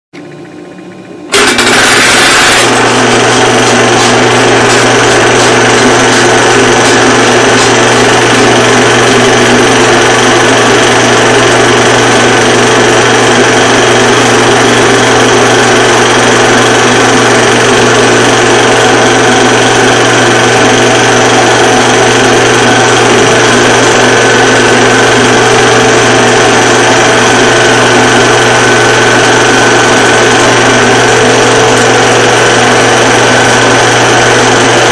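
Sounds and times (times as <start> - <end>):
film projector clattering: 1.3 - 34.9.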